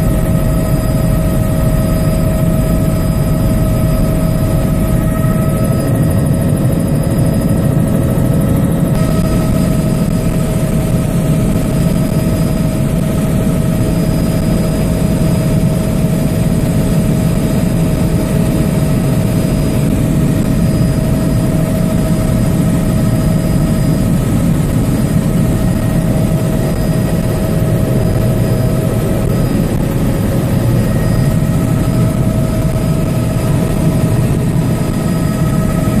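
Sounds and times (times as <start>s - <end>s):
helicopter rotor drone: 0.0s - 36.0s
turbine whine: 0.0s - 36.0s.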